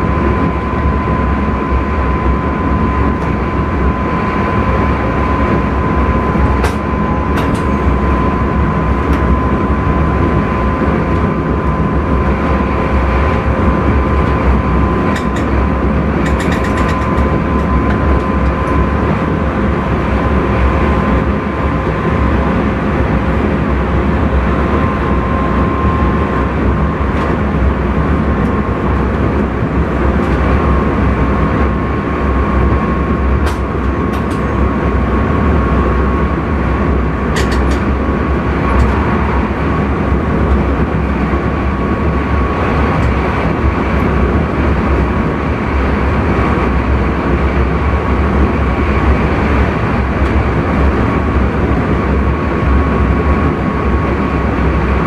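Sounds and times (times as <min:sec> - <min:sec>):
train wheels rumbling on rail: 0:00.0 - 0:55.0
train whine: 0:00.0 - 0:55.0.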